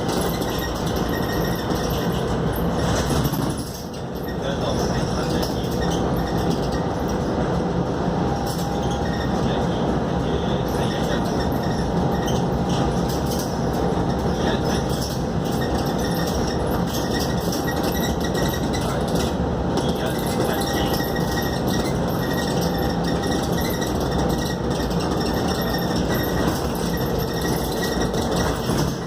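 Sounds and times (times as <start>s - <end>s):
bus engine and road noise drone: 0.0s - 29.0s.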